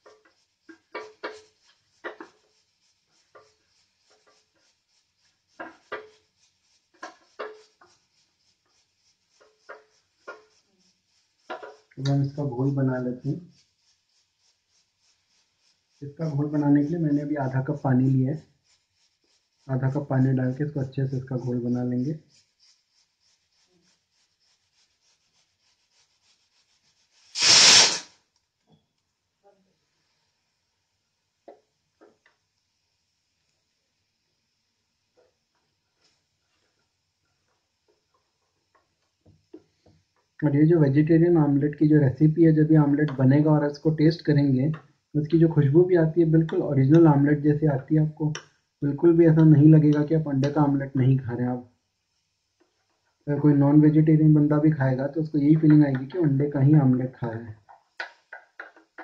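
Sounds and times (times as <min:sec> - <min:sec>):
hand brushing recording device: 0:00.0 - 0:28.3, 0:35.1 - 0:39.8, 0:40.4 - 0:51.6, 0:53.2 - 0:59.0.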